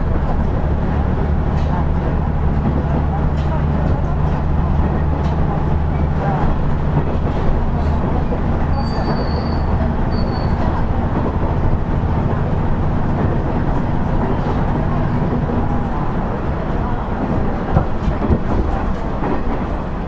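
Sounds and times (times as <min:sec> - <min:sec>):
wheel and rail noise: 0:00.0 - 0:20.0.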